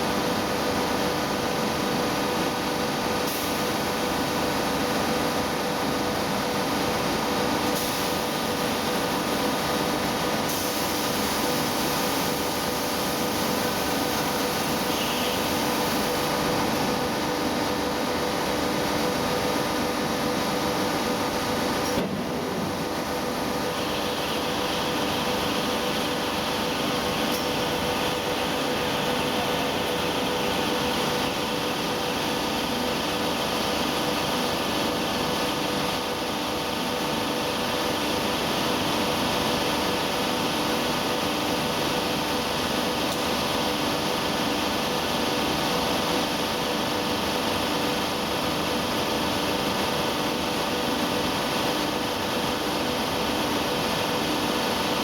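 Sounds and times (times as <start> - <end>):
factory machinery humming: 0.0 - 55.0.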